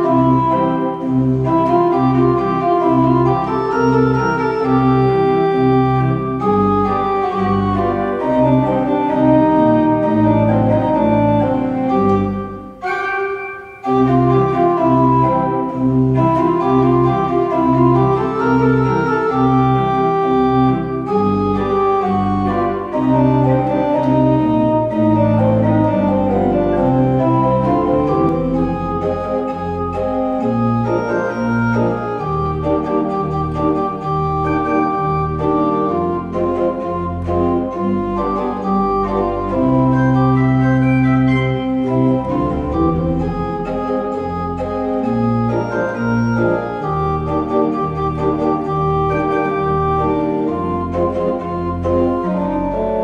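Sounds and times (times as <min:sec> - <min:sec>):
pipe organ playing chords: 0:00.0 - 0:53.0.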